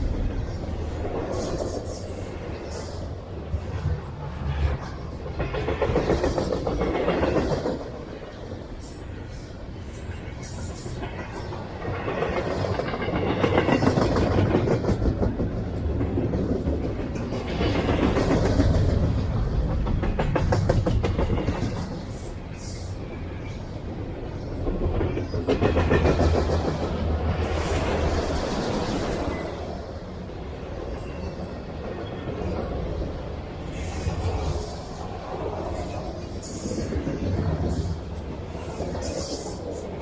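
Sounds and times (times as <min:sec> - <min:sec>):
freight train cars rumbling past: 0:00.0 - 0:40.0.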